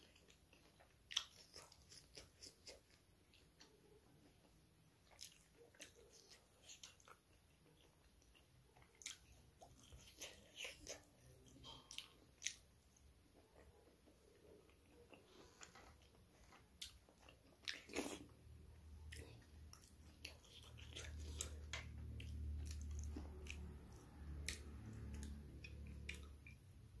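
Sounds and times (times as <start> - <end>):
chewing: 0.0 - 27.0
low steady hum: 0.0 - 27.0.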